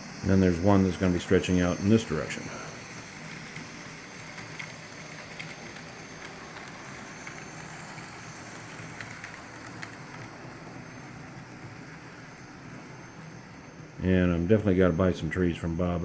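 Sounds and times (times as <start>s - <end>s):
model train whirring: 0.0s - 16.0s.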